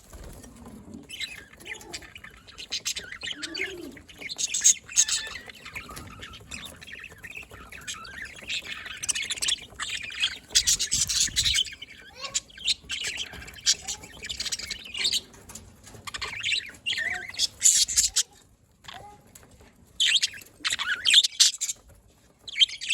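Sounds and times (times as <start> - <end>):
budgerigars chirping: 1.0 - 18.4, 19.9 - 22.9.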